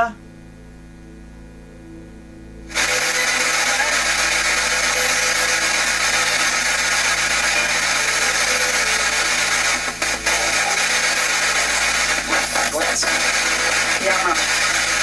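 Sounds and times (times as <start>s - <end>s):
radio static hiss: 2.7s - 15.0s.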